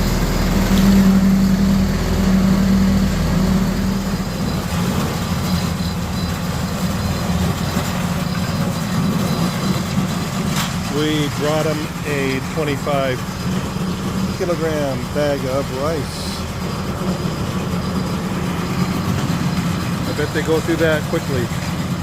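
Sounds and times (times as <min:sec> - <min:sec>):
concrete mixer engine humming: 0:00.0 - 0:22.0.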